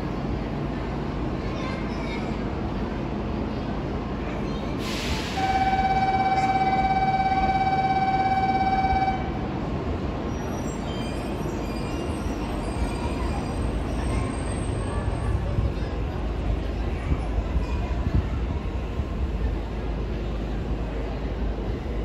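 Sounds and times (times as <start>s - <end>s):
faint electric tones of train: 0.0s - 22.0s.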